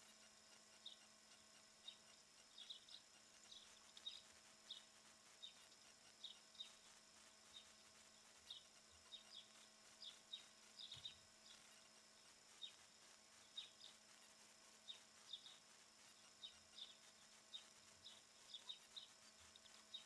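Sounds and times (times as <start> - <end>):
faint small bird chirps: 0.0 - 20.0.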